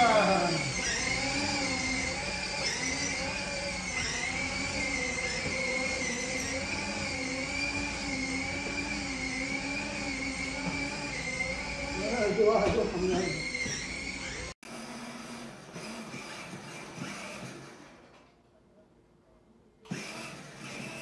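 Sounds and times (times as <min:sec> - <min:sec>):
electric motors whining: 0:00.0 - 0:18.2, 0:19.9 - 0:21.0.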